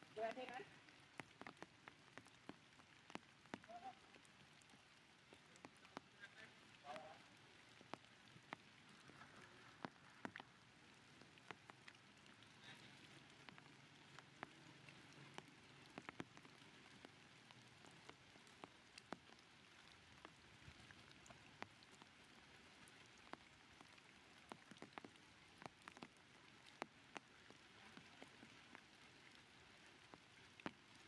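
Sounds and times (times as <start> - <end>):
water drops dripping: 0.0 - 22.2, 22.8 - 29.4
soft steady hiss: 0.0 - 31.0.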